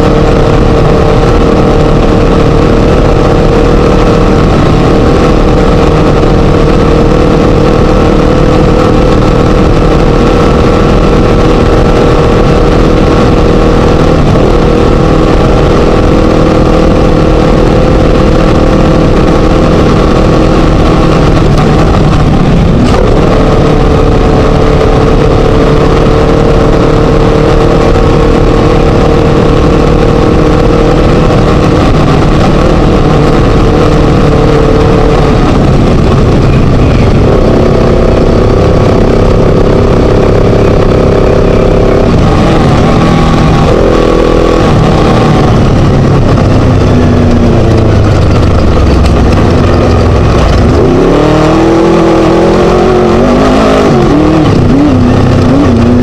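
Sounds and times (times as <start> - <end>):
race buggy engine running hard: 0.0 - 56.0.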